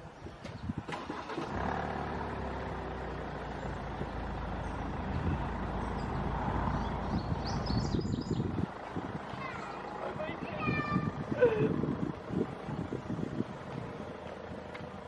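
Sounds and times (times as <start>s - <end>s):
car engine running: 1.2s - 15.0s.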